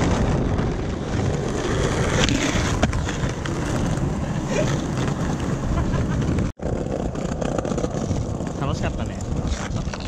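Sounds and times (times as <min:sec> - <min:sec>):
skateboard clack: 0:00.0 - 0:10.0
skateboard grinding on curb: 0:00.0 - 0:10.0
skateboard wheels rolling on concrete: 0:00.0 - 0:10.0
wind buffeting microphone: 0:00.0 - 0:10.0.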